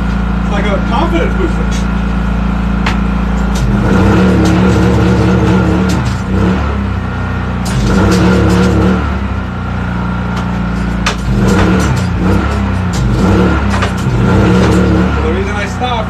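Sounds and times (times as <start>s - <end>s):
tire changer motor hum: 0.0s - 16.0s.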